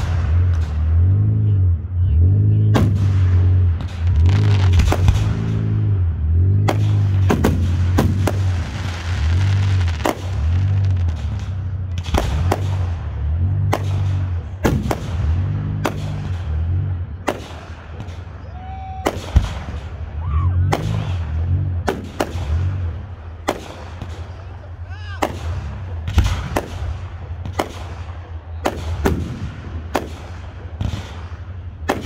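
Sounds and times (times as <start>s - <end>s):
fireworks bursting: 2.8s - 5.9s, 6.6s - 32.0s.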